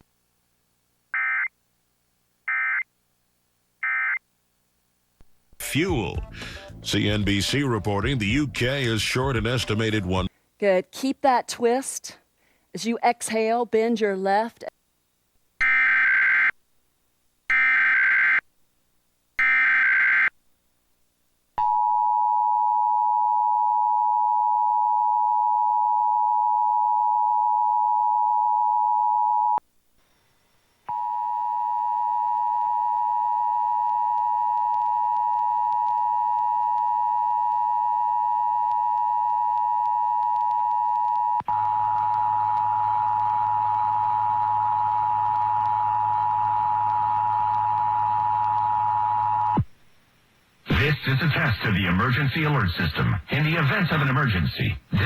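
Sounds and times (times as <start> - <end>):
faint hum and hiss: 0.0 - 15.6, 16.5 - 17.6, 18.4 - 19.4, 20.3 - 23.0, 29.6 - 55.0.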